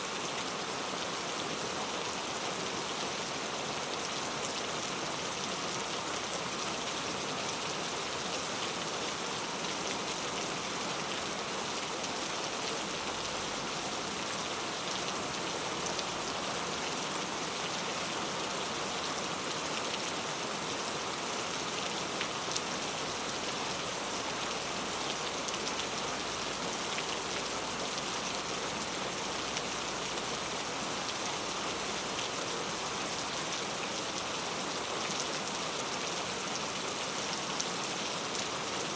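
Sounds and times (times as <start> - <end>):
rain pattering on a surface: 0.1 - 38.9.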